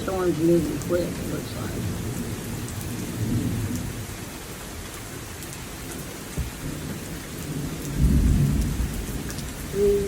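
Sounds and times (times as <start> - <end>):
low rumble of thunder: 0.0 - 4.6, 5.9 - 10.0
rain falling steadily: 0.0 - 10.0.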